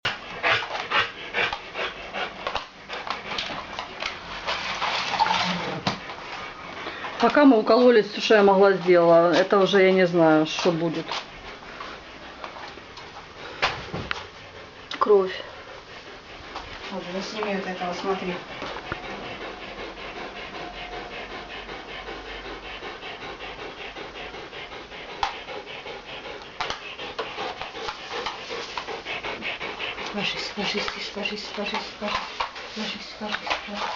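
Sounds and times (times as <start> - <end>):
dog panting heavily: 0.0 - 33.9.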